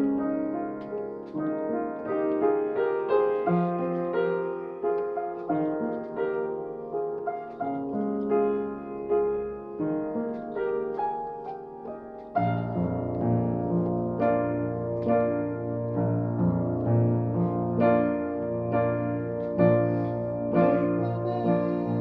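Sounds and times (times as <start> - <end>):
piano melody over chords: 0.0 - 22.0.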